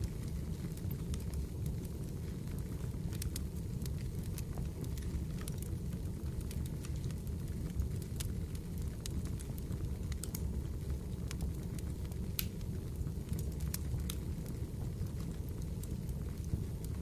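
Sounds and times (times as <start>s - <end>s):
fire crackling and popping: 0.0s - 17.0s
rumble of burning wood: 0.0s - 17.0s.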